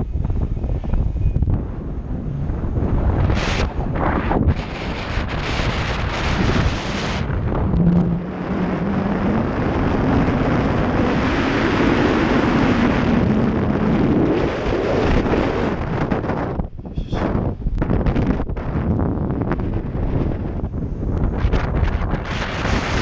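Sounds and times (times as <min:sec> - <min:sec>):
faint low drone: 0:00.0 - 0:19.6
wind buffeting microphone: 0:00.0 - 0:23.0.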